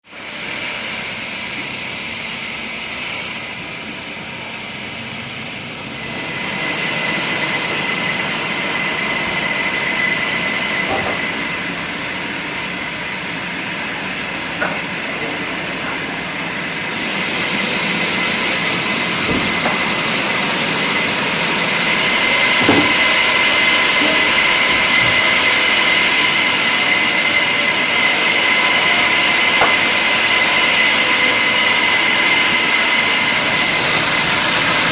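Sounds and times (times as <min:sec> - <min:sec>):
machinery whine: 0:00.1 - 0:34.9
loud hiss: 0:00.2 - 0:34.9.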